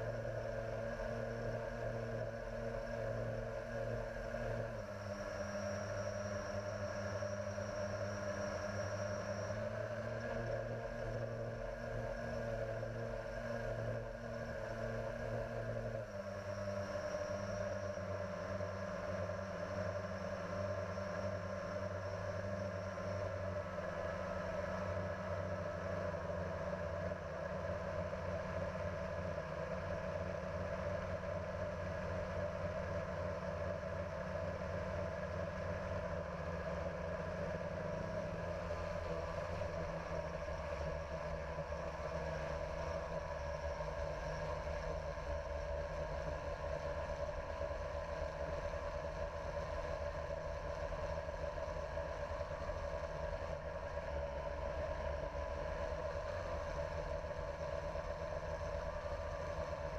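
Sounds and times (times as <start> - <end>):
drone propellers buzzing hum: 0.0 - 59.9.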